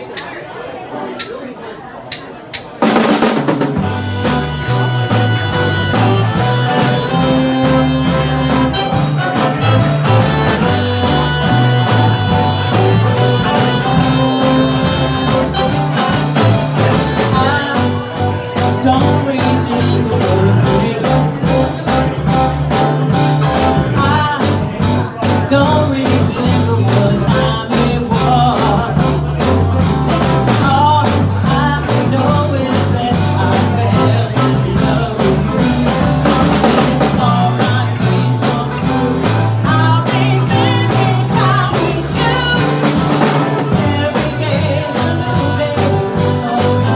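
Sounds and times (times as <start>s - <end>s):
live pop-rock band: 2.1s - 46.9s.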